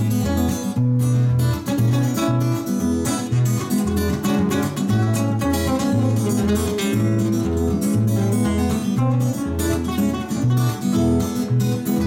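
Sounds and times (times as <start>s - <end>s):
acoustic guitars strumming chords: 0.0s - 12.0s
guitar bass line: 0.0s - 12.0s.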